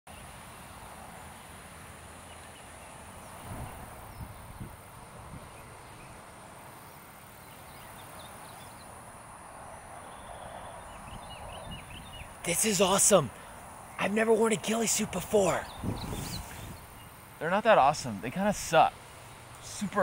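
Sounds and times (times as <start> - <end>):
soft outdoor hiss: 0.1 - 20.0.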